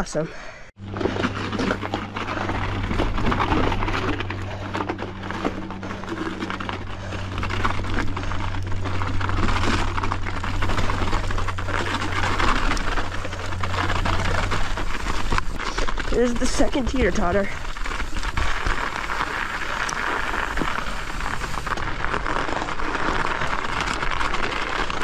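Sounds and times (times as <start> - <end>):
bike clicking and rattling: 0.8 - 25.0
bike tyre noise on snow: 0.8 - 25.0.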